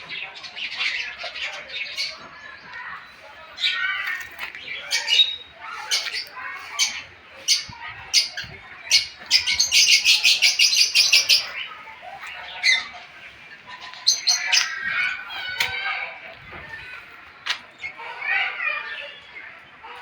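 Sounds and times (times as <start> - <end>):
birds squawking and chirping: 0.0 - 20.0.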